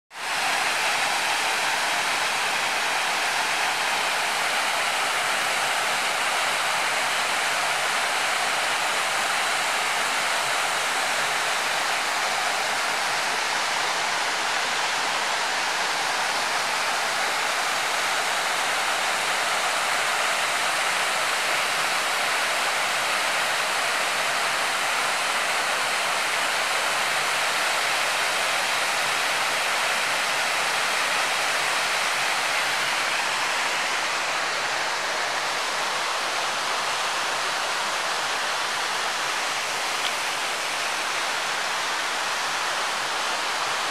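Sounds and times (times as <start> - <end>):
waterfall pouring into pool: 0.1 - 43.9.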